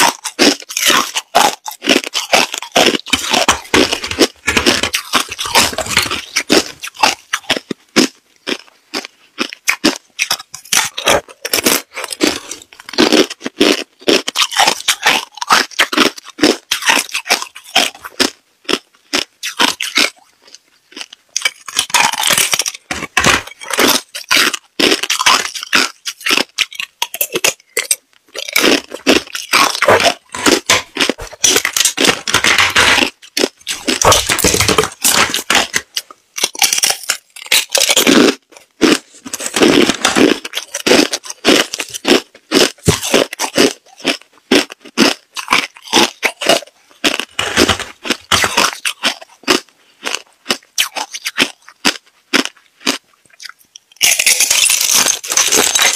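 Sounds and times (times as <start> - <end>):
ice being chewed: 0.0 - 55.9.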